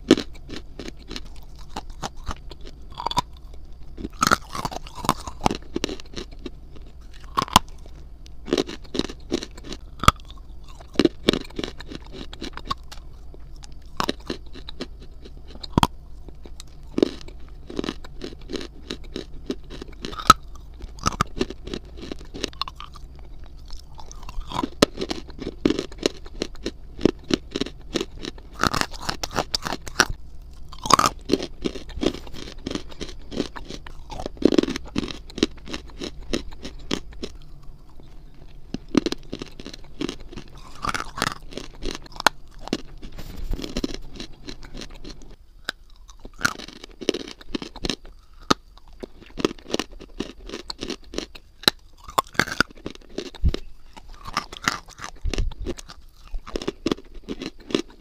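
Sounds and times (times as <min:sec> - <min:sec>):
crunchy chewing close up: 0:00.0 - 0:58.0.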